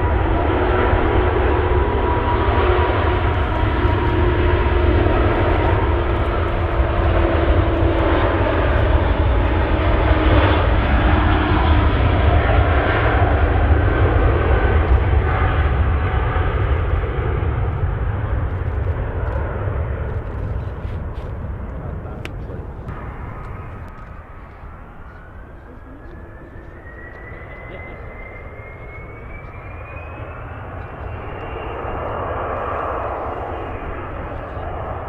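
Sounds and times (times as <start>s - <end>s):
aircraft engines passing: 0.0s - 35.0s.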